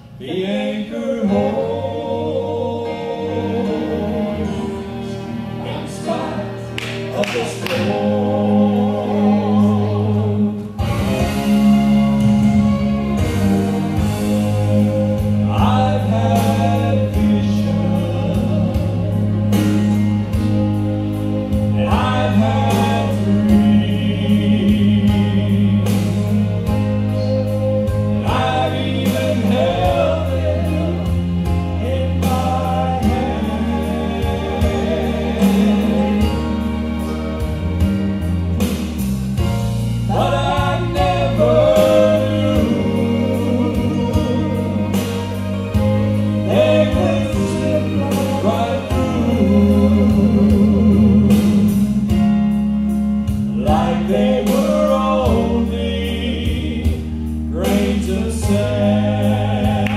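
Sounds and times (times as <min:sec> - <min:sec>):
instrumental accompaniment: 0:00.0 - 0:59.9
sustained bass notes: 0:00.0 - 0:59.9
man and woman singing a duet: 0:00.1 - 0:11.4, 0:13.1 - 0:20.0, 0:21.5 - 0:37.9, 0:40.0 - 0:52.2, 0:53.4 - 0:59.9.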